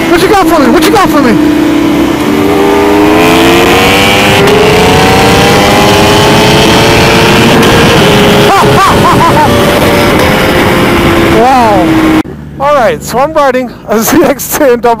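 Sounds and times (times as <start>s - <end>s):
motorcycle engine accelerating: 0.0s - 13.3s.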